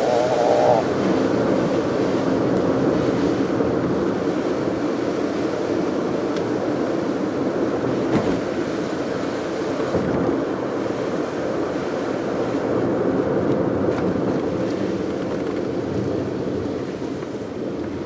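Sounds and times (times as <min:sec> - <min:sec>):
car driving road noise: 0:00.0 - 0:18.0.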